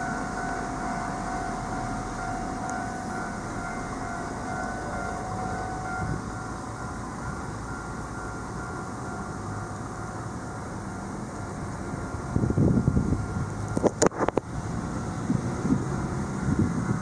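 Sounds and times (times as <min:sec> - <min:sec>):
level crossing alarm bell: 0:00.0 - 0:13.9, 0:15.9 - 0:17.0.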